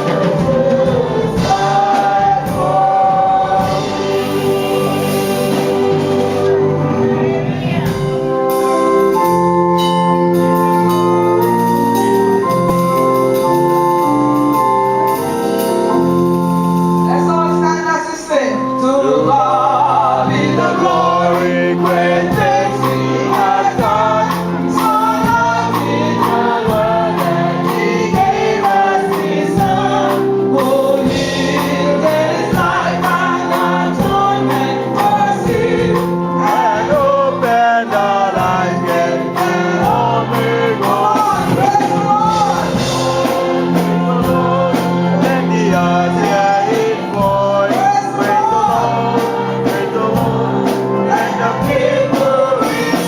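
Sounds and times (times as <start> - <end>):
gospel choir singing: 0.0 - 53.0
instrumental accompaniment: 0.0 - 53.0.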